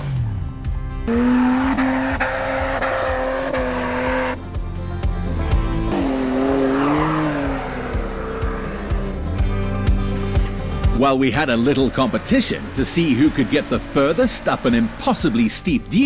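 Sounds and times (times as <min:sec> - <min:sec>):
background music: 0:00.0 - 0:16.0
engines working hard under load: 0:00.0 - 0:16.0.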